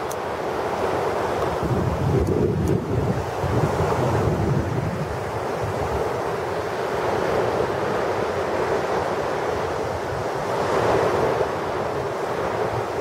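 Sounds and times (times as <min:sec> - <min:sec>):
sea waves washing up beach: 0:00.0 - 0:13.0.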